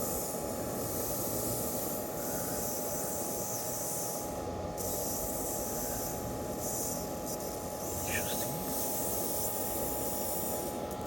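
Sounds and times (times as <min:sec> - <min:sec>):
fan-like hum and hiss: 0:00.0 - 0:11.0.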